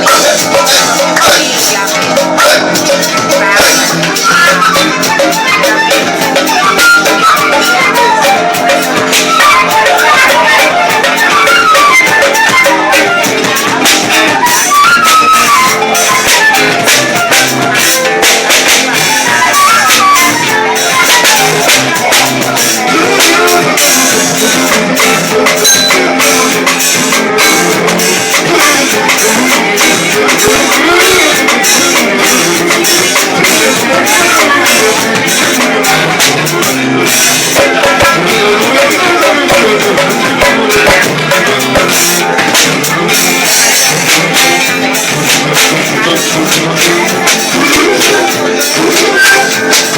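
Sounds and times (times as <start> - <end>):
fife playing fast melody: 0.0 - 49.9
hand percussion: 0.0 - 49.9.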